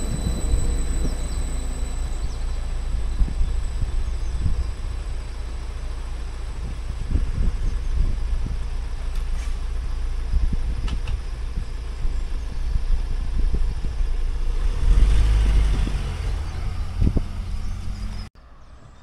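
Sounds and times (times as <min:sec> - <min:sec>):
vehicle engines idling: 0:00.0 - 0:19.0
vehicles pulling away: 0:00.0 - 0:19.0.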